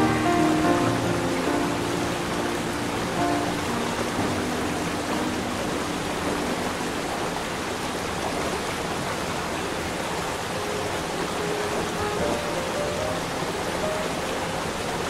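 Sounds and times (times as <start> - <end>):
faint sustained music notes: 0.0 - 8.2, 10.5 - 15.0
waterfall rushing: 0.0 - 15.0.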